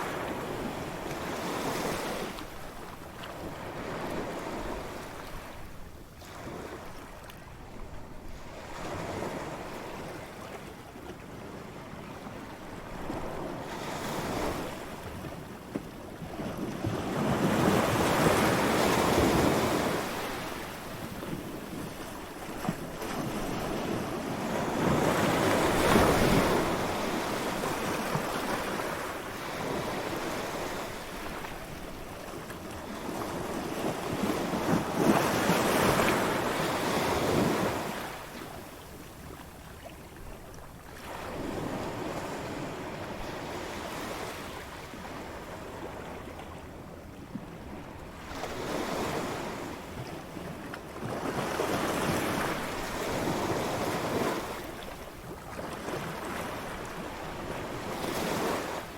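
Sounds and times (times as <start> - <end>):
ocean waves breaking on beach: 0.0 - 39.9, 40.9 - 58.9.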